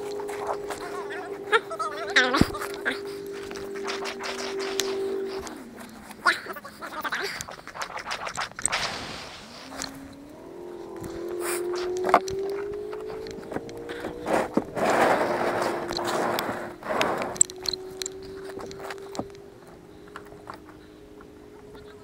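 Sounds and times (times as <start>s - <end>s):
low drone: 0.0s - 22.0s
small clicks: 2.2s - 14.6s, 15.6s - 22.0s.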